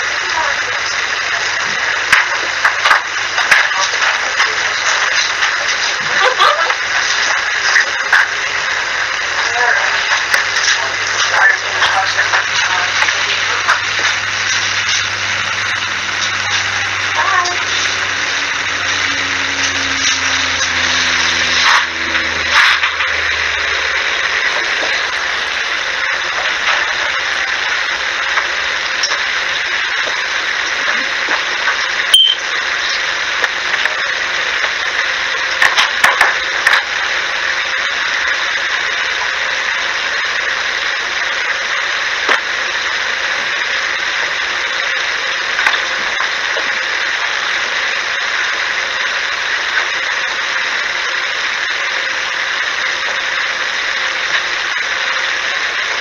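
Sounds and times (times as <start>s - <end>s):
loud static hiss: 0.0s - 56.0s.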